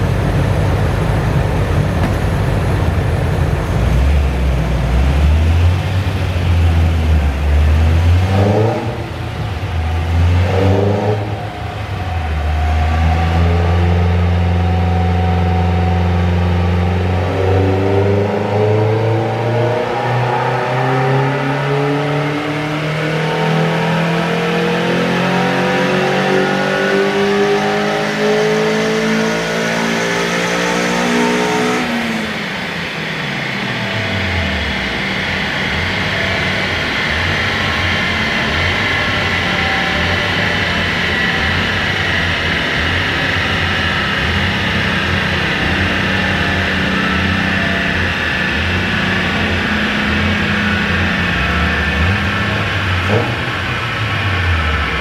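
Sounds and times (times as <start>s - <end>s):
car engine revving under load: 0.0s - 55.0s.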